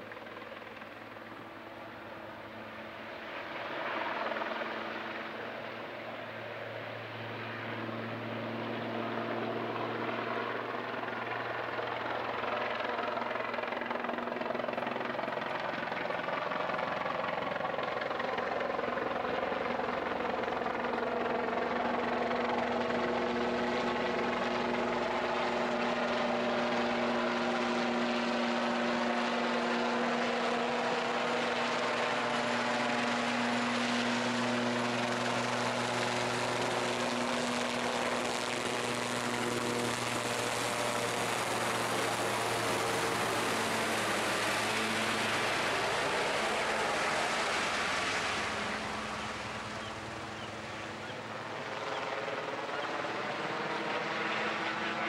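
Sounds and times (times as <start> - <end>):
helicopter flying overhead: 0.0 - 55.0.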